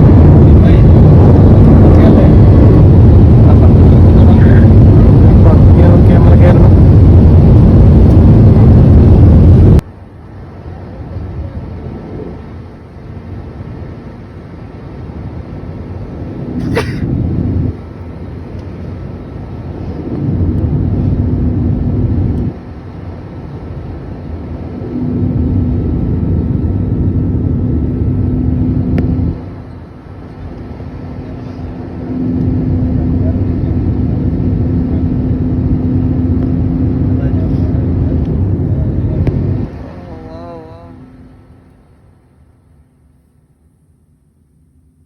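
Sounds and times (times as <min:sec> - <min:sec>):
airliner engine and airflow rush: 0:00.0 - 0:45.0
faint steady hum: 0:00.0 - 0:45.0.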